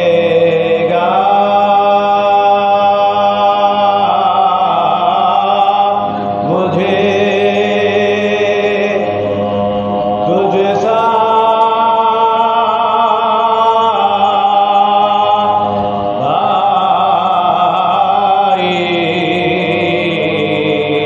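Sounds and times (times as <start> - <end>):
steady low tone: 0.0 - 21.0
voices singing a slow lament: 0.0 - 21.0.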